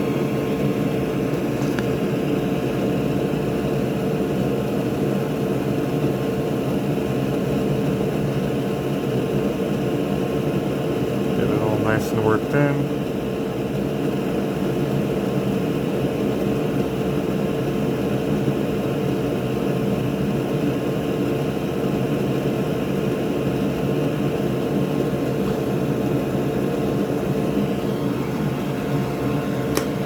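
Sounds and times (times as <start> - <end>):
electric fan motor whirring: 0.0 - 30.0.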